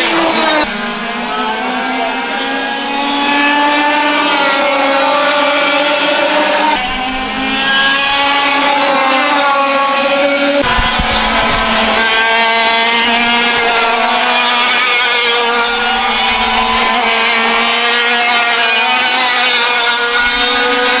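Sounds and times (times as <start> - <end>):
kart engines revving high: 0.0 - 21.0.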